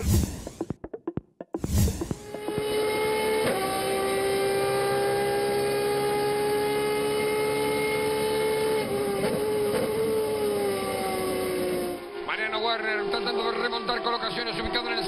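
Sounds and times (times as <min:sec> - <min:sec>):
race car engine at full throttle: 0:00.0 - 0:00.8, 0:01.6 - 0:15.0.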